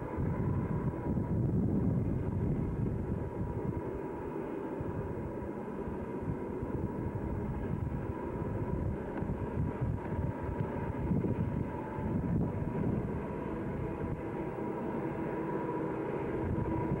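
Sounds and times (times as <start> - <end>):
distant diesel locomotives rumbling: 0.0 - 17.0
wind buffeting microphone: 0.0 - 17.0.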